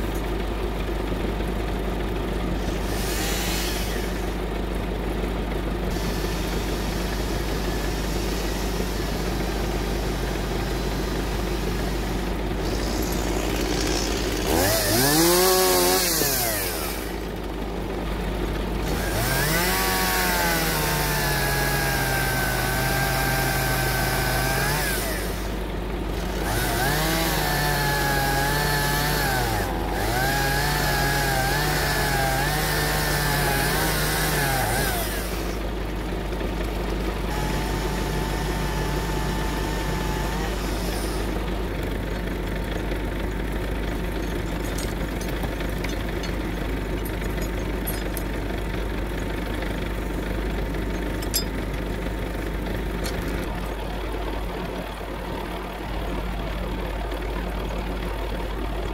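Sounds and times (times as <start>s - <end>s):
chainsaw cutting logs: 0.0s - 58.9s
engine idling: 0.0s - 58.9s.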